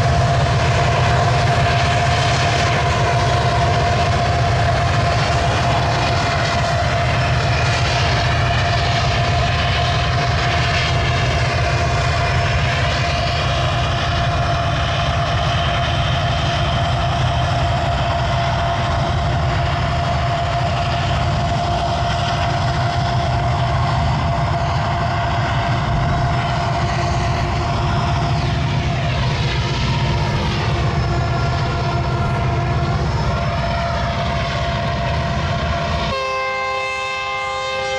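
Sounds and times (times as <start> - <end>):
constant whine: 0.0 - 37.9
diesel locomotive engine drone: 0.0 - 37.9.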